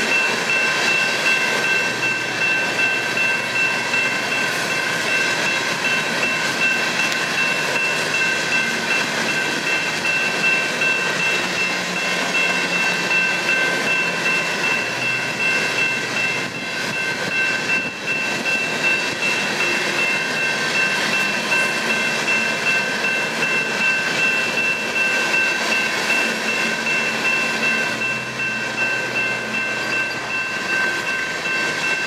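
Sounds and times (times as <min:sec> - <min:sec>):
freight train wheels on rails: 0:00.0 - 0:32.0
high-pitched ringing tones: 0:00.0 - 0:32.0.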